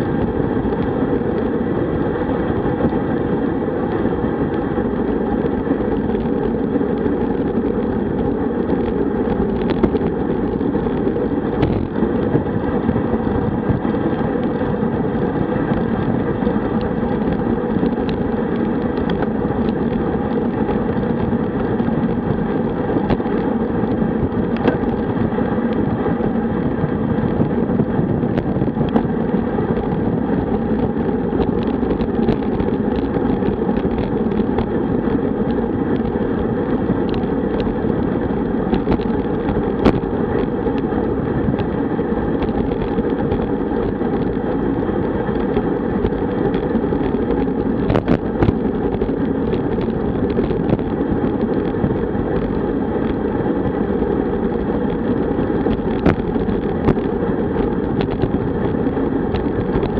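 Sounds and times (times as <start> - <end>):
bike tyre noise: 0.0 - 59.9
wind buffeting microphone: 0.0 - 59.9.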